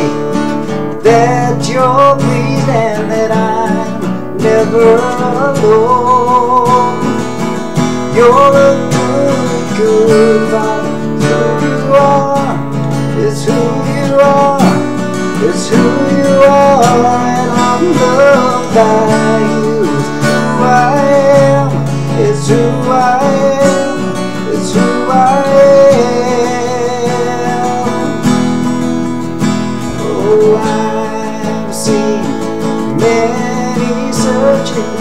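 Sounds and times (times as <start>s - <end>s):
acoustic guitar strumming: 0.0s - 35.0s
man singing: 0.0s - 35.0s.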